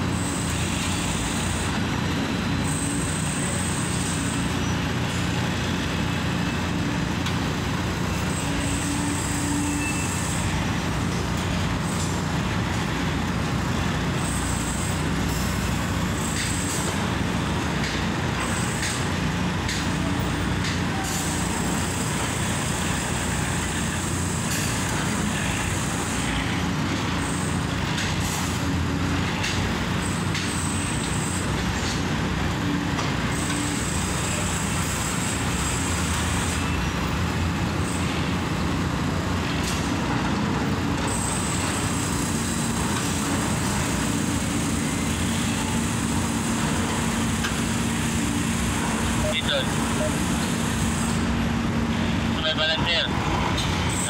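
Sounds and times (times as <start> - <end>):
machinery engine hum: 0.0 - 54.0.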